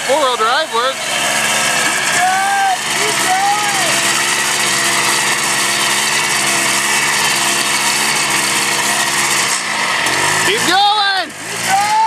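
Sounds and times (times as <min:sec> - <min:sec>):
quad engine straining at high revs: 0:00.0 - 0:12.0.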